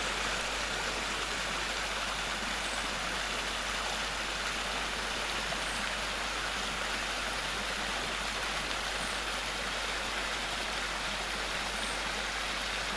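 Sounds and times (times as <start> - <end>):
stream water running over rocks: 0.0 - 12.9.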